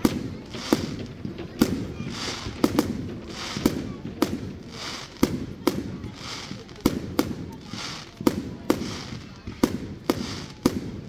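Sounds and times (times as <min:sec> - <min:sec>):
firework bangs: 0:00.0 - 0:11.0
firework hissing rush: 0:00.0 - 0:11.0.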